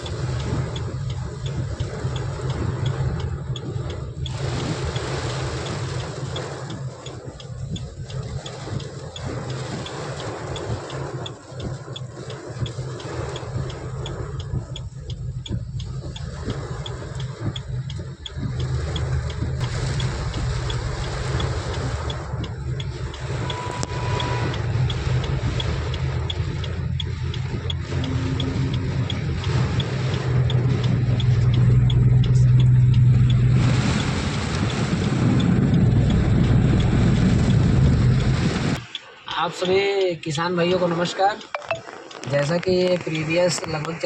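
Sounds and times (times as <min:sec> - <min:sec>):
low rumble: 0:00.0 - 0:39.6
heavy rain: 0:00.0 - 0:44.0
light ticking: 0:00.0 - 0:44.0.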